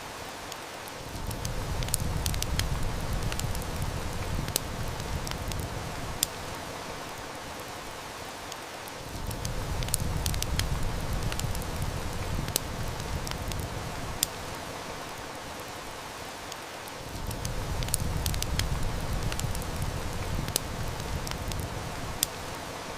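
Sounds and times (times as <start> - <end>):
heavy rain hiss: 0.0 - 22.9
wood fire crackling: 0.0 - 22.9.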